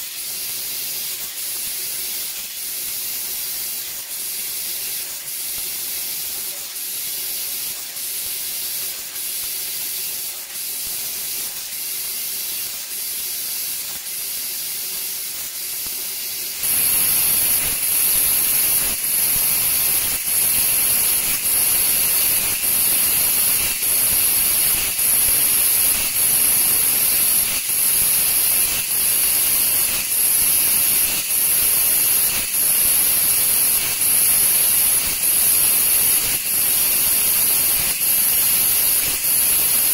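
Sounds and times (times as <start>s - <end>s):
gas hissing from laser nozzle: 0.0s - 39.9s.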